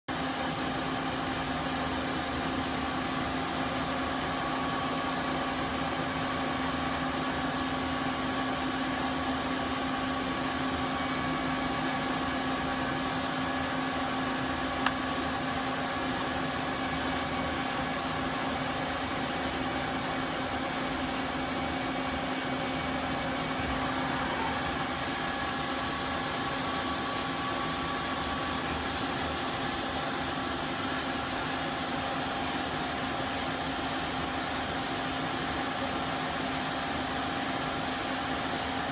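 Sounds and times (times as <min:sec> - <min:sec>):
lathe machine hum: 0:00.2 - 0:35.8.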